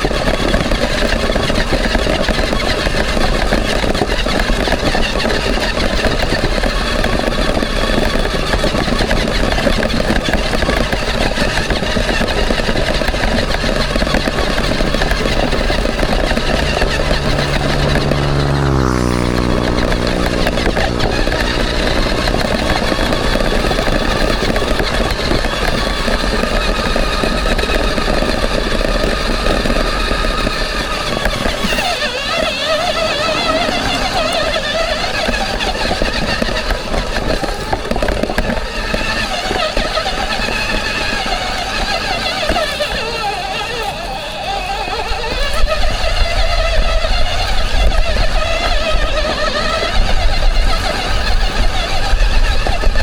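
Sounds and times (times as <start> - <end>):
toy truck motor whine: 0.0 - 53.0.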